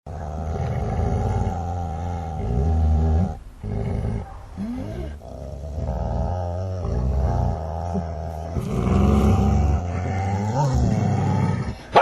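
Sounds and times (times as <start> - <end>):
dogs growling and snarling: 0.1 - 12.0.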